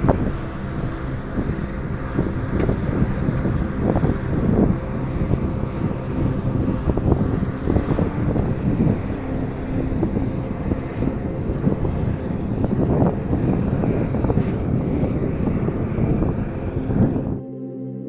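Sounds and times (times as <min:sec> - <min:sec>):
wind gusting on microphone: 0:00.0 - 0:17.4
faint steady tones: 0:00.0 - 0:18.0.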